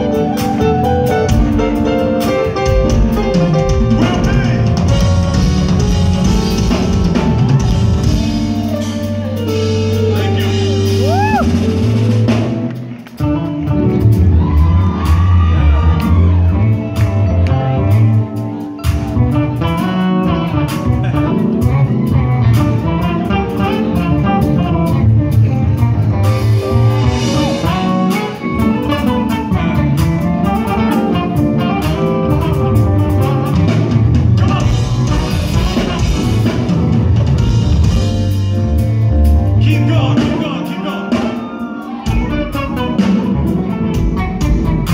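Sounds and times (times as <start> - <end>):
electric bass line: 0.0 - 41.2
drum kit beat: 0.0 - 44.9.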